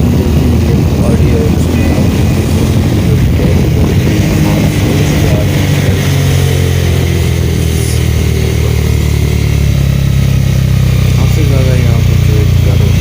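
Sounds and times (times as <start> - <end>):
microphone noise: 0.0 - 13.0
motorcycle engine running: 0.0 - 13.0.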